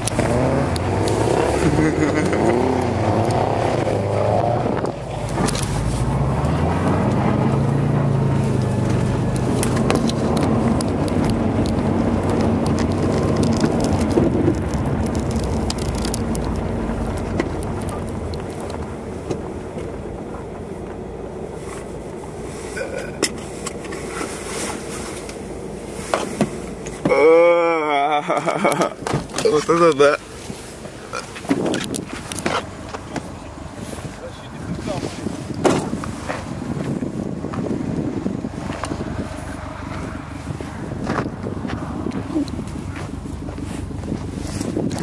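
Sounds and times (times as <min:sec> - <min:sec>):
car engine running: 0:00.0 - 0:45.0
tyres rolling over snow: 0:00.0 - 0:45.0.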